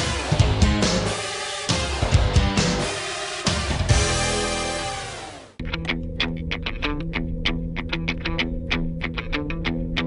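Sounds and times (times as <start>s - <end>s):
guitar: 0.0s - 10.0s
rock music: 0.0s - 10.0s.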